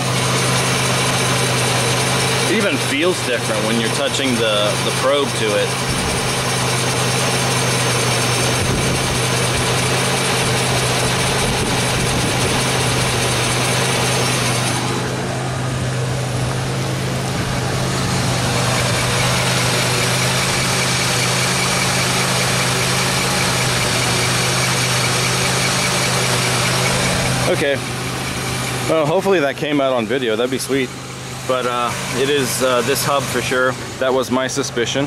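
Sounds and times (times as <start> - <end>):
hub bearing grinding: 0.0 - 34.3
wheel hub spinning drone: 0.0 - 34.3.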